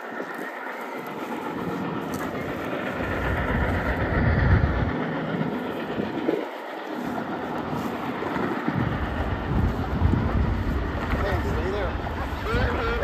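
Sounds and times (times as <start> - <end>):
steam train rolling on rails: 0.0 - 13.0.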